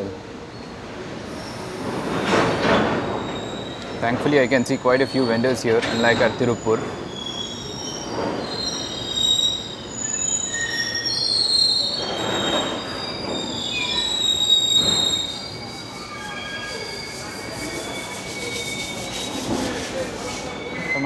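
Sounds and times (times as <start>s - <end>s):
train rumbling: 0.0s - 21.0s
train wheels squealing: 0.0s - 21.0s.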